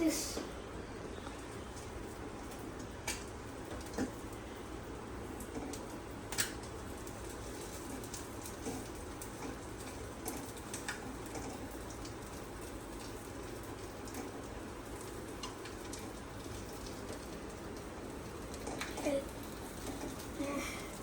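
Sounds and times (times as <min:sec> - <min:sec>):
omelette sizzling in a pan: 0:01.4 - 0:21.0.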